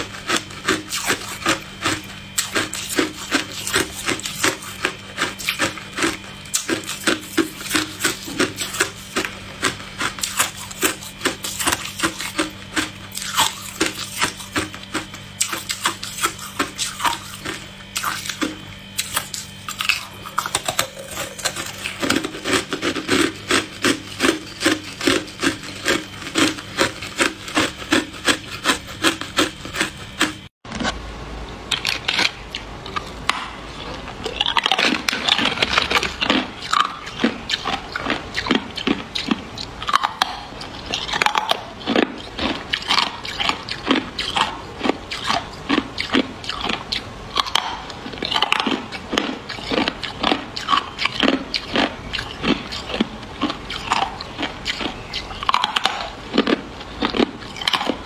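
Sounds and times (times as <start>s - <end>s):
ice being chewed and crunched: 0.0s - 31.0s, 31.7s - 58.0s.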